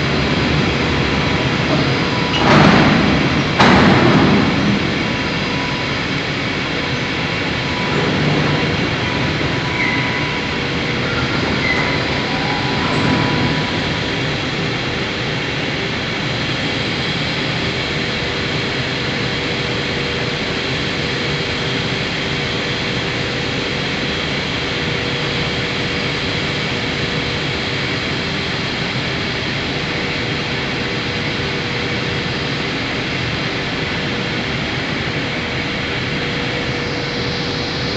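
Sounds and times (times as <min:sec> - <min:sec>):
industrial machinery drone: 0:00.0 - 0:37.9.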